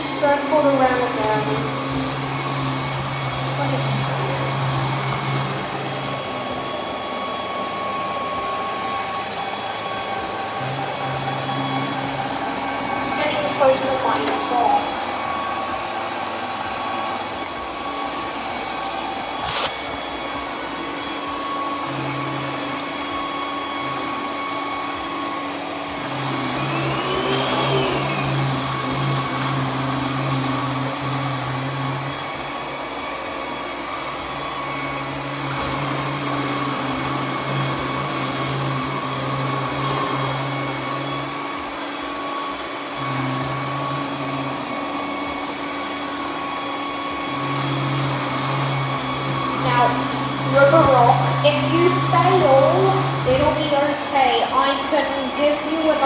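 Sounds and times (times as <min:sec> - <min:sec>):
robot vacuum running: 0:00.0 - 0:56.0.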